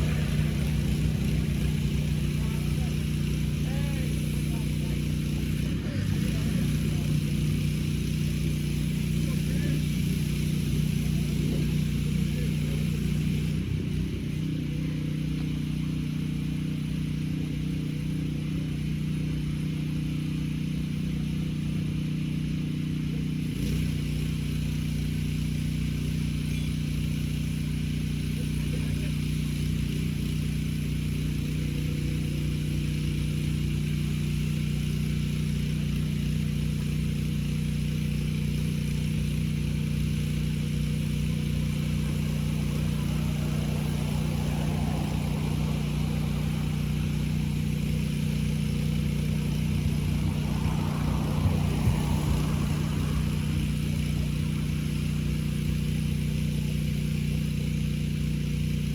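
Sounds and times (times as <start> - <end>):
generator engine running: 0.0 - 58.9
varying engine sound: 0.0 - 58.9.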